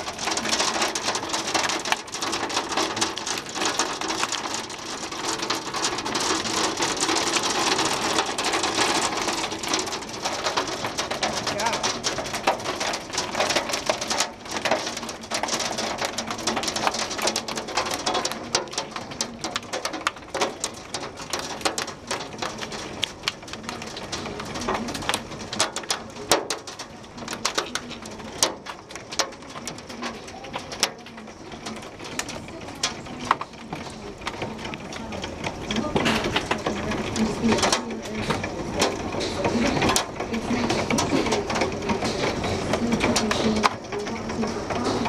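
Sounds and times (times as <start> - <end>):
hail pattering: 0.0 - 45.0.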